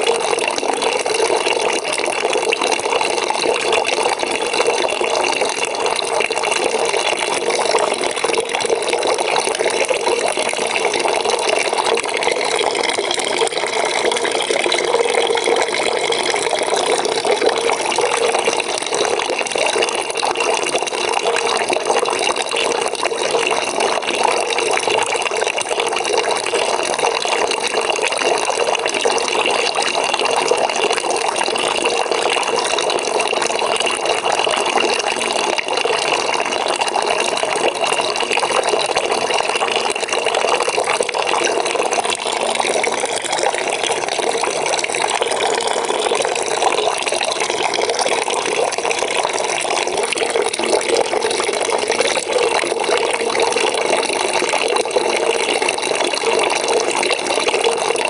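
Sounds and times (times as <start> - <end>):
water pouring into a bucket: 0.0 - 58.0.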